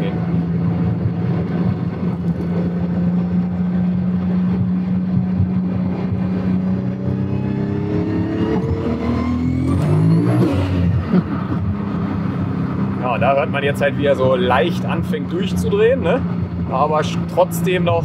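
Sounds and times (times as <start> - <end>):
car engine running and revving: 0.0 - 18.0.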